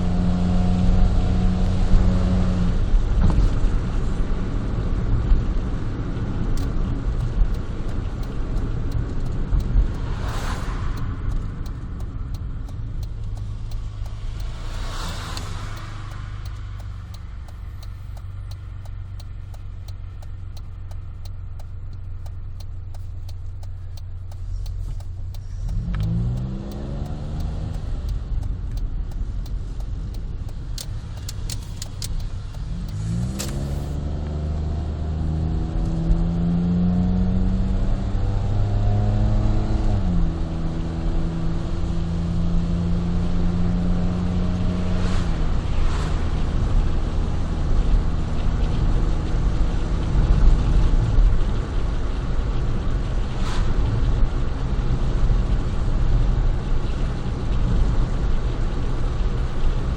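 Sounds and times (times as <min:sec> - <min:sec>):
car engine accelerating: 0:00.0 - 0:59.9
road noise: 0:00.0 - 0:59.9.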